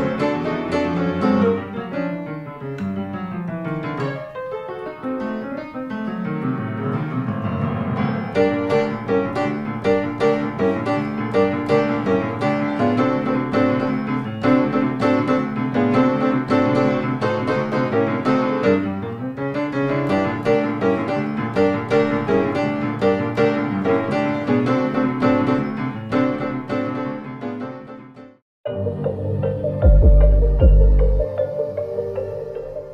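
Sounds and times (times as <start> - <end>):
background piano music: 0.0 - 32.9.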